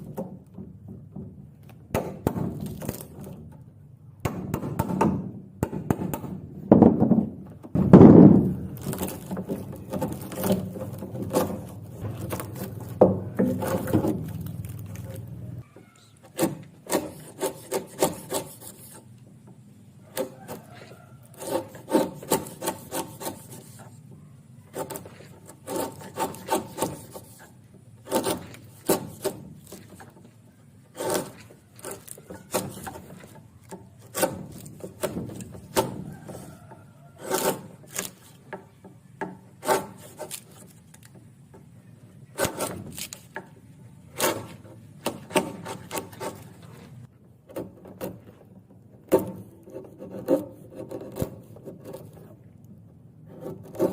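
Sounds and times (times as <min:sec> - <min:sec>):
hand tool scraping wood: 0:08.4 - 0:52.6, 0:53.2 - 0:53.9.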